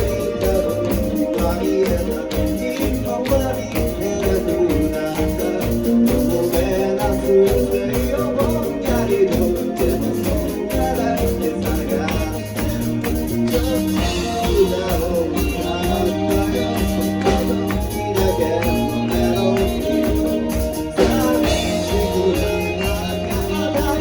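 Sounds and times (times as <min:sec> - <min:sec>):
rock song with drums bass guitar: 0:00.0 - 0:24.0.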